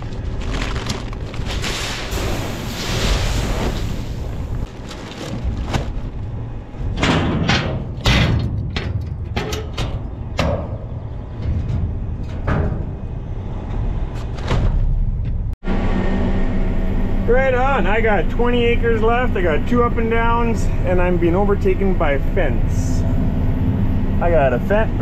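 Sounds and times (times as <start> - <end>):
low machine rumble: 0.0 - 25.0.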